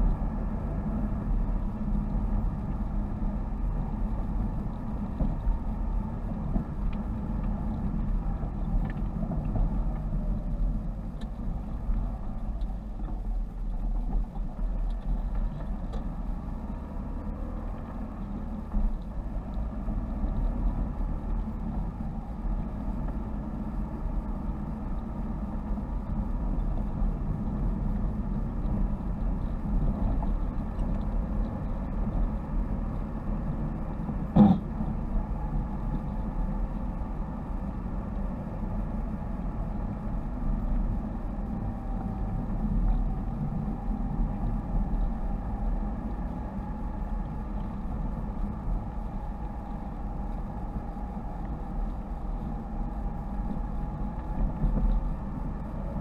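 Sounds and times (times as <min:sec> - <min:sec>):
car engine hum: 0:00.0 - 0:56.0
tyre and road rumble: 0:00.0 - 0:56.0.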